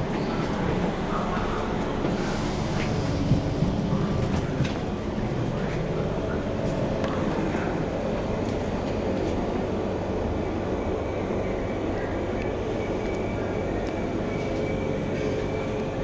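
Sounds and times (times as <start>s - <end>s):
train carriage rumble: 0.0s - 16.0s.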